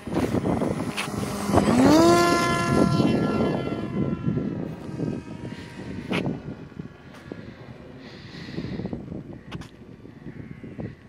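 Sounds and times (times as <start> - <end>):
motor and propeller whine: 0.0 - 9.5.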